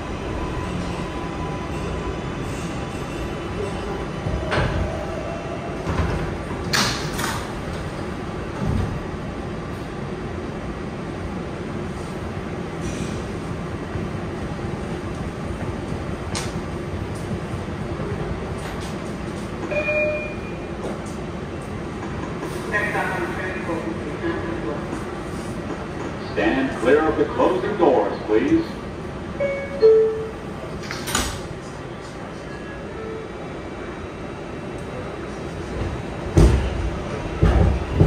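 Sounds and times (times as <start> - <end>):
subway train rumbling: 0.0 - 38.0.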